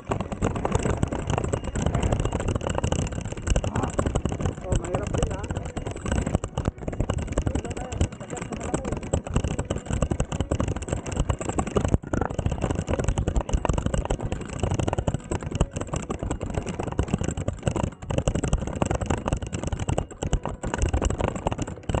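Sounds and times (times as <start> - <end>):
bike rattling over bumps: 0.0 - 22.0
wind rumble on microphone: 0.0 - 22.0.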